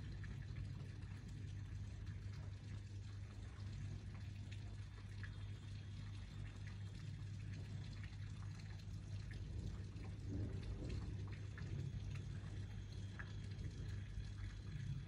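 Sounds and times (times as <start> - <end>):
drips ticking: 0.0 - 15.0
low steady hum: 0.0 - 15.0
steady rain falling: 0.0 - 15.0.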